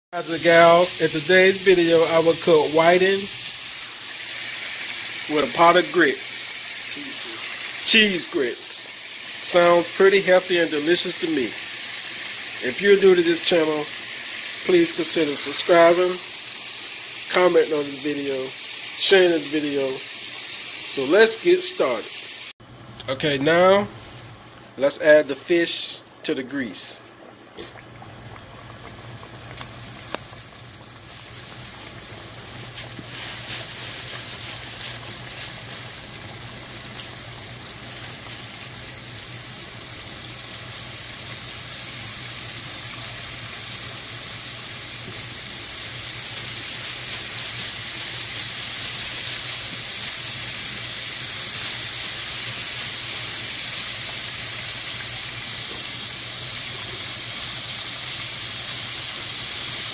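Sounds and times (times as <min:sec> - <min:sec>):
fish deep-frying in oil: 0:00.2 - 0:22.9, 0:26.4 - 0:59.9.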